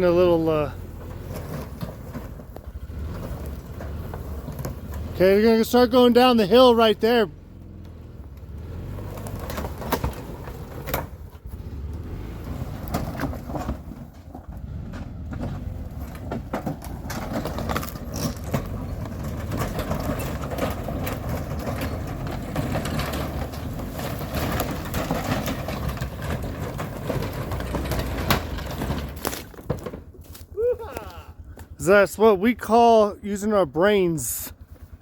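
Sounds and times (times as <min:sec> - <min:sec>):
vehicle engine running: 0:00.0 - 0:35.0
wood cracking and scraping: 0:00.0 - 0:35.0.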